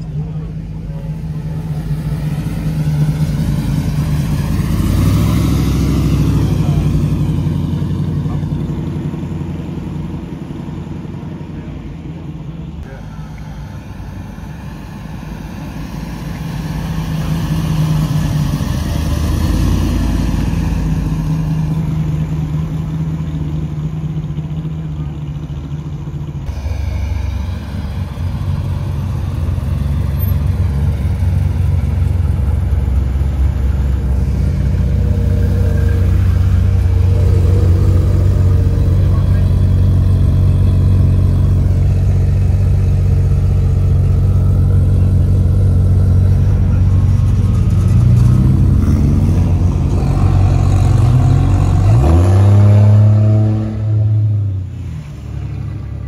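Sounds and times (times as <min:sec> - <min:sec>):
car engine idling: 0:00.0 - 0:53.3.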